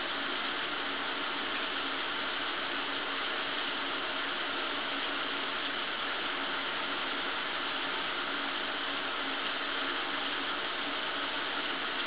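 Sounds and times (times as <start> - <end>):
shower spraying water: 0.0 - 12.0.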